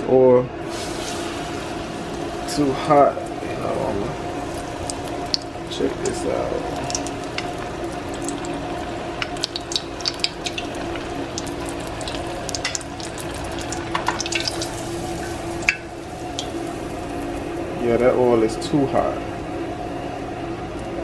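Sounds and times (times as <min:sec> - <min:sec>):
steady low hum: 0:00.0 - 0:21.0
deep-frying oil bubbling and crackling: 0:00.6 - 0:21.0.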